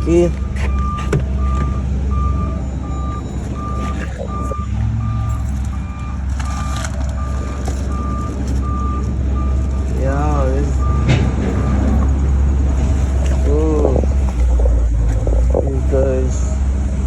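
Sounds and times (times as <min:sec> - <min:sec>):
vehicle backup alarm beeping: 0:00.0 - 0:16.7
truck engine idling: 0:00.0 - 0:17.0.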